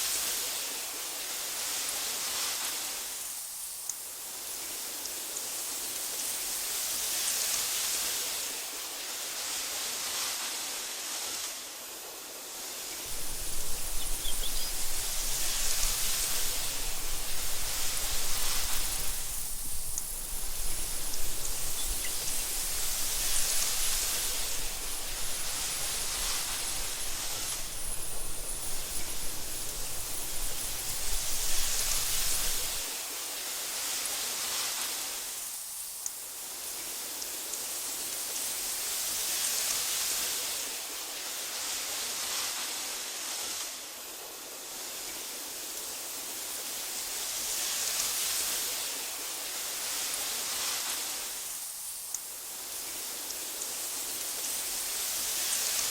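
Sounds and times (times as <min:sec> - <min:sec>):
wind rustling through grass: 0:00.0 - 0:55.9.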